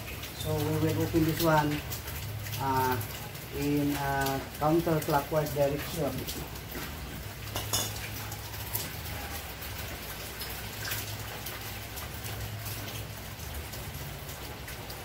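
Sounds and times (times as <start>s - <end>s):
water dripping onto concrete: 0.0s - 15.0s.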